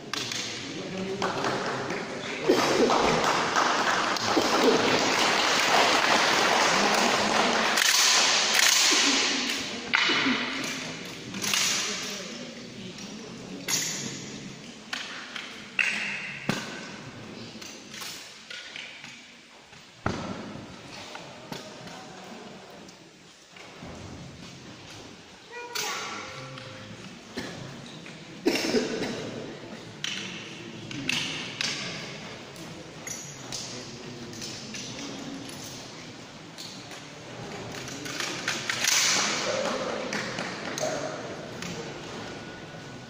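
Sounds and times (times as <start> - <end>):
loud crowd noise: 0.0 - 18.4, 19.9 - 43.0.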